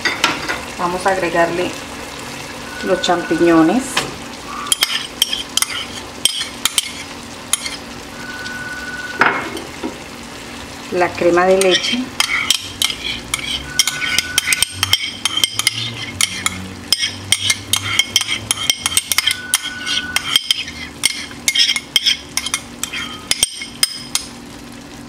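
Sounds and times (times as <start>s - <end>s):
food sizzling in a hot pan: 0.0s - 25.0s.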